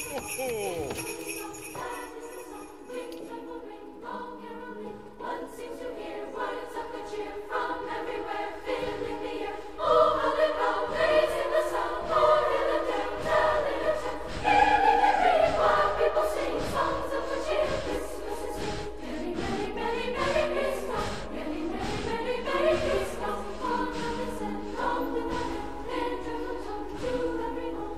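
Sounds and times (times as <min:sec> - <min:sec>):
choir singing: 0:01.1 - 0:27.9.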